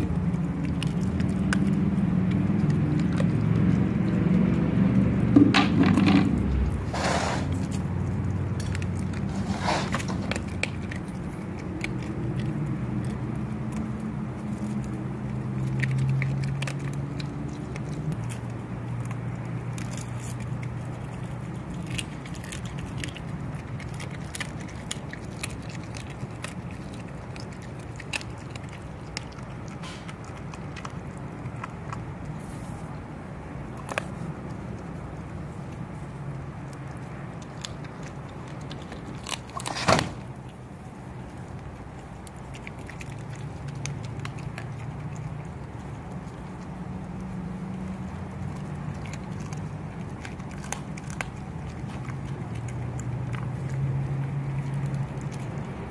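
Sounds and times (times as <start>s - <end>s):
dog chewing and crunching bones: 0.0s - 55.9s.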